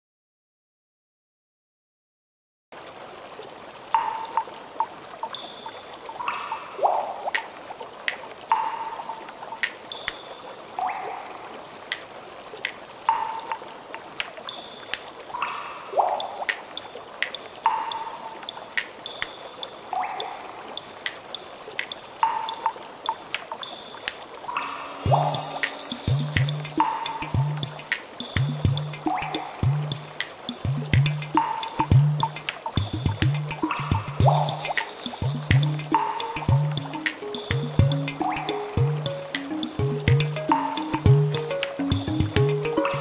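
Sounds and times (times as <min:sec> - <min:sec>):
stream trickling and gurgling: 0:02.7 - 0:43.0
water drips plinking: 0:03.6 - 0:43.0.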